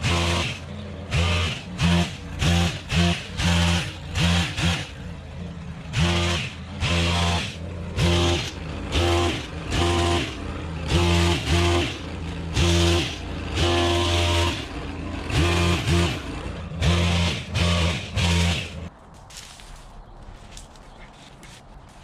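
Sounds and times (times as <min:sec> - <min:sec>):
pole saw engine revving and idling: 0:00.0 - 0:22.0.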